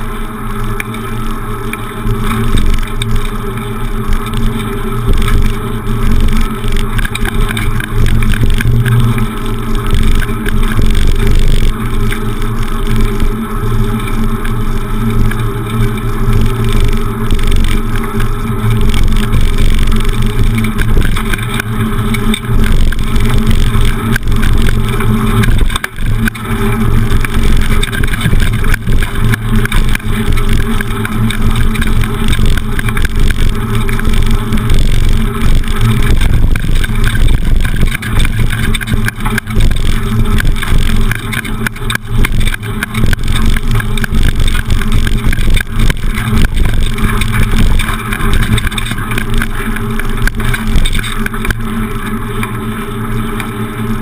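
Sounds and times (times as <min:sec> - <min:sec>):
wind rumble: 0:00.0 - 0:52.4
bicycle riding vibration: 0:00.0 - 0:54.0.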